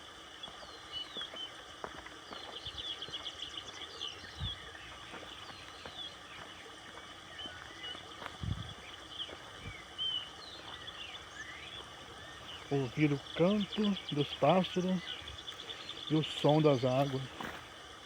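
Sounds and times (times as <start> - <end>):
birds singing: 0.0 - 18.0.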